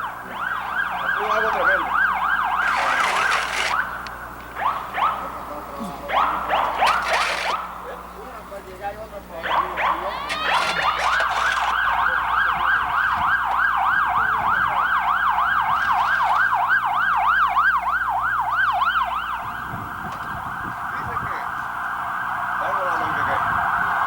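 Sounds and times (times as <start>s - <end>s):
emergency siren yelping: 0.0s - 8.1s, 9.3s - 24.0s.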